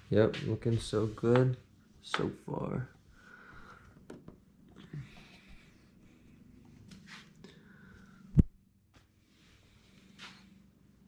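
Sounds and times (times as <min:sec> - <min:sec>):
faint rustling and scraping: 0:00.0 - 0:02.1, 0:02.8 - 0:08.2, 0:08.9 - 0:11.0.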